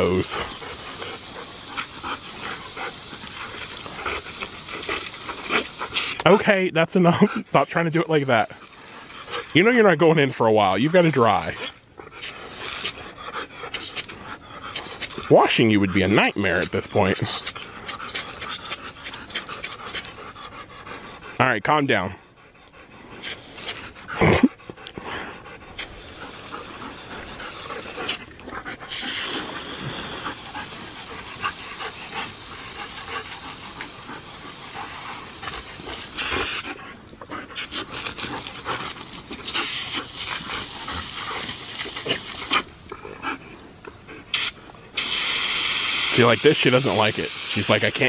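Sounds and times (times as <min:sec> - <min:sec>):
hose spray nozzle hissing: 0:00.0 - 0:09.8, 0:10.6 - 0:20.9, 0:23.1 - 0:24.4, 0:25.3 - 0:43.0, 0:44.2 - 0:48.0
dog panting: 0:00.0 - 0:45.0.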